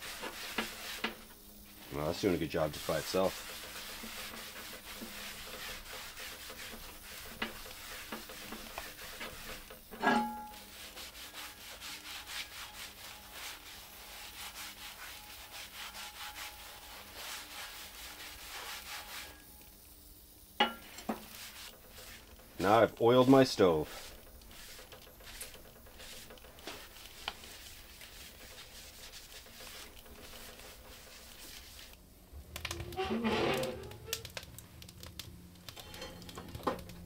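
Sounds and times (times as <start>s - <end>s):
paper towel rubbing on metal: 0.0s - 19.5s, 20.8s - 32.0s, 32.8s - 35.2s.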